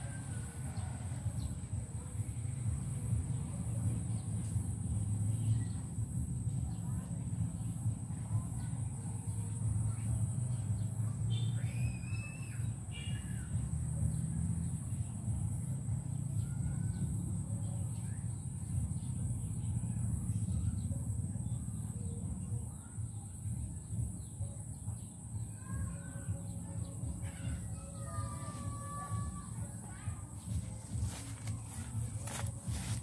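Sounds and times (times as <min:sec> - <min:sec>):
steady low rumble: 0:00.0 - 0:11.3, 0:12.7 - 0:33.0.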